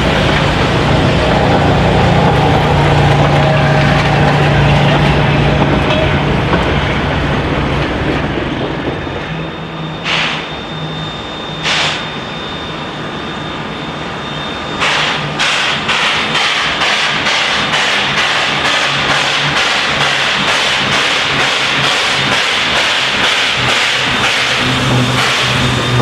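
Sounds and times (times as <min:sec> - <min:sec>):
steam locomotive chuffing: 0:00.0 - 0:12.5, 0:14.7 - 0:26.0.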